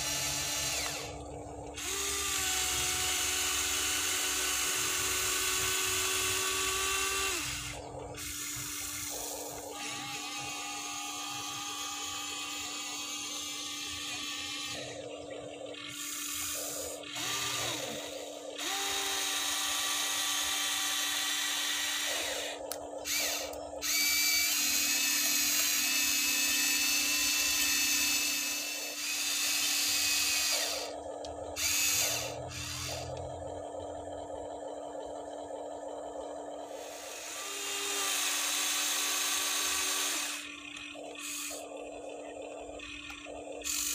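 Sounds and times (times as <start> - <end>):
electric motors whining: 0.0 - 43.9.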